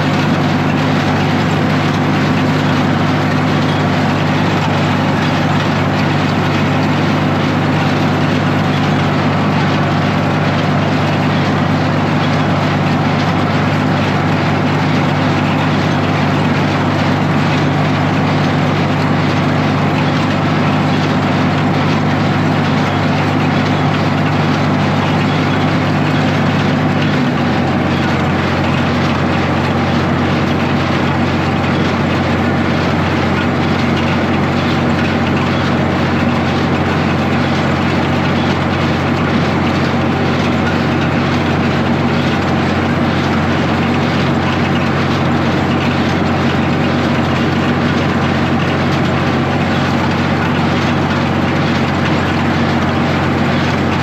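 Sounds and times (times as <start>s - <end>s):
hay baler machinery working: 0.0s - 54.0s
tractor engine running: 0.0s - 54.0s.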